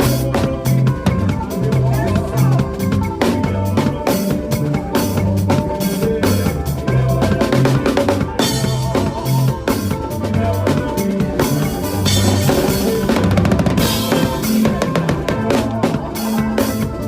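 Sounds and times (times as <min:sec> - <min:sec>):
drum kit playing: 0:00.0 - 0:17.0
drum roll: 0:00.0 - 0:17.0
praise music track with bass: 0:00.0 - 0:17.0.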